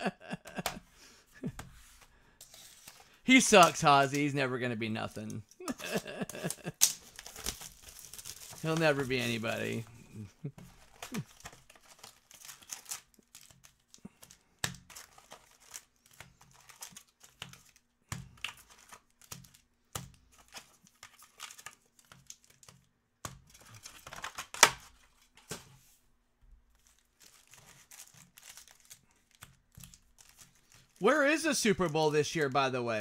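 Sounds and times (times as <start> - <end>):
card packs crinkling and rustling: 1.7 - 25.7, 26.7 - 33.0.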